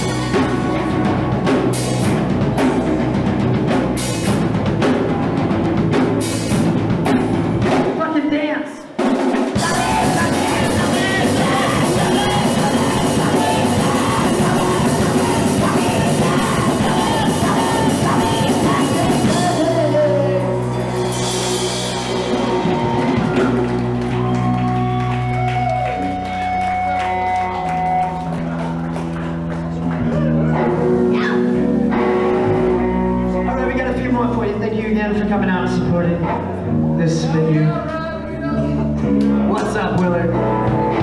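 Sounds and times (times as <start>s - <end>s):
held guitar and bass notes: 0.0s - 7.9s, 9.6s - 41.0s
punk rock band with vocals: 0.0s - 25.6s, 30.0s - 41.0s.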